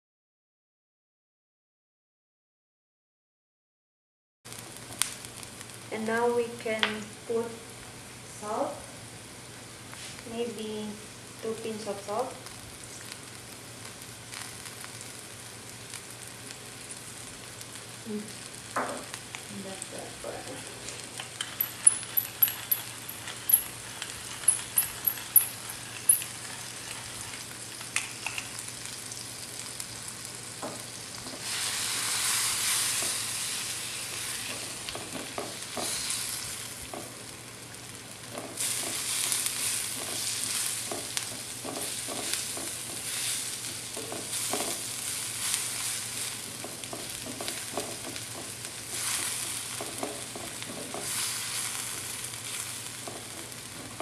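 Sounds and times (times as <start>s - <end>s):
shrimp sizzling in a frying pan: 4.5s - 54.0s.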